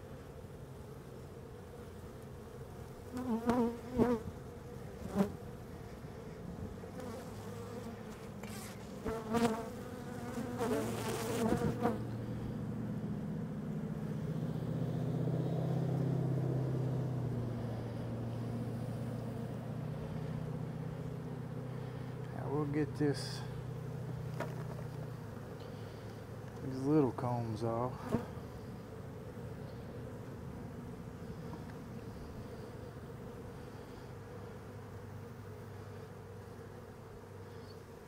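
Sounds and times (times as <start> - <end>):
honey bees buzzing: 0.0 - 38.0.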